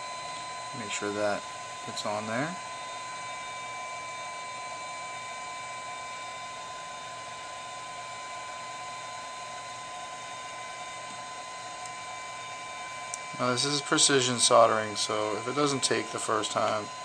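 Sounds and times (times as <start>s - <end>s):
whirring hum with high whine: 0.0s - 17.0s.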